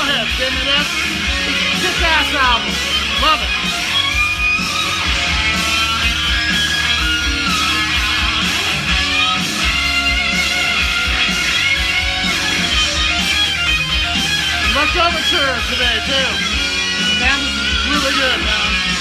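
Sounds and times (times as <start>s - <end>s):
rock music from vinyl record: 0.0s - 19.0s.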